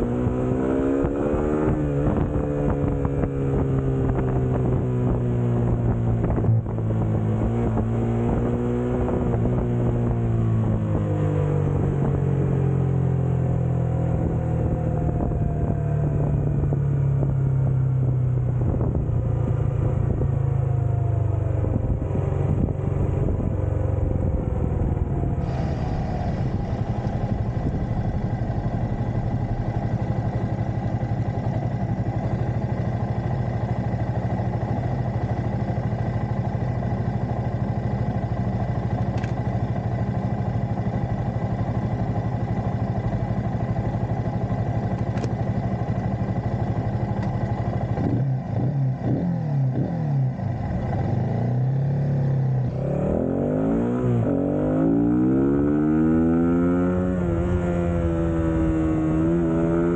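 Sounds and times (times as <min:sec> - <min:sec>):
motorcycle engine slowing and idling: 0:00.0 - 0:59.9.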